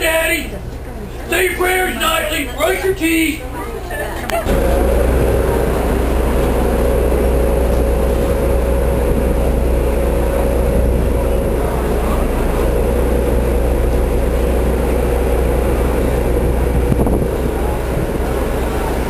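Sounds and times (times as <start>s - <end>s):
train rumble inside coach: 0.0s - 19.0s.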